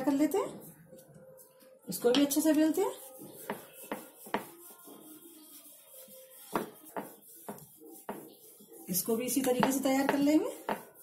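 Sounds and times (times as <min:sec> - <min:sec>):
rolling pin rubbing on dough: 0:00.0 - 0:11.0.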